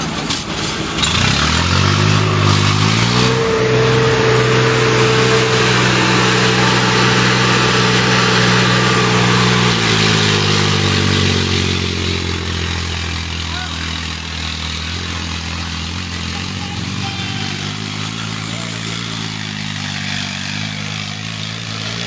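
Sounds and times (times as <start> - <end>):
tractor diesel engine revving: 0.0 - 22.0.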